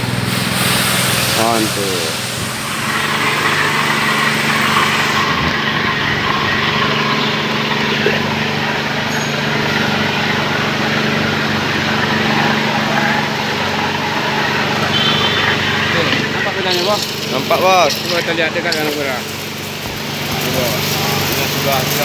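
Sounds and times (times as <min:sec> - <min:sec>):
machine motor humming: 0:00.0 - 0:22.0.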